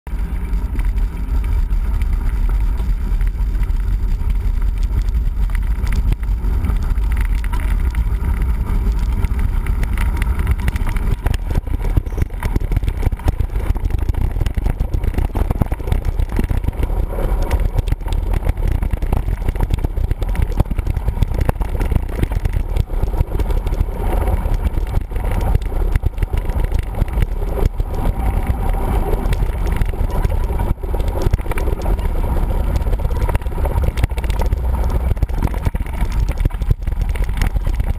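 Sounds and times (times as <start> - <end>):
bike rattling and knocking: 0.1 - 37.9
wind rumble on microphone: 0.1 - 37.9.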